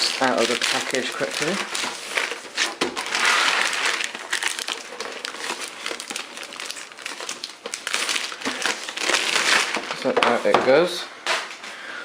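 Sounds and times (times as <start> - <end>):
packaging crinkling: 0.0 - 10.5.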